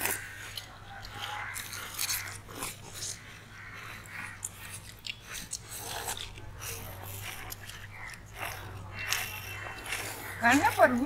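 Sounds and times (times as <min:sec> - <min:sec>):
crunching frozen ice lollies: 0:00.0 - 0:11.0.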